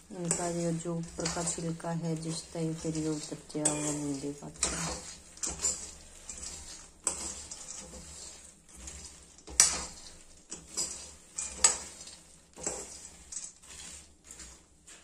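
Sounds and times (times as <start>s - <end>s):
metal spoon scraping a pan: 0.0s - 15.0s
nuts rattling in a pan: 0.0s - 15.0s.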